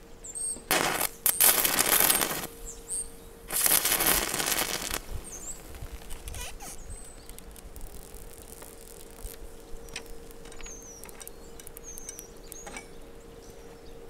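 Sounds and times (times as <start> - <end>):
welding arc crackling and hissing: 0.4 - 13.6.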